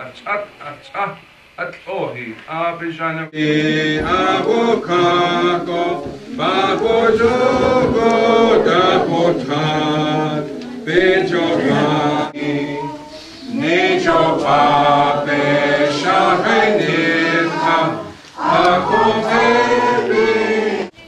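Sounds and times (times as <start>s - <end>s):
congregation singing a hymn: 3.3s - 21.0s.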